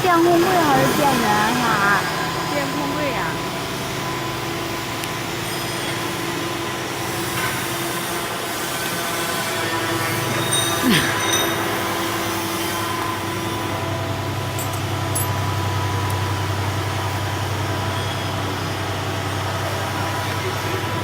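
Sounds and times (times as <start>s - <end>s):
industrial machinery humming: 0.0s - 21.0s.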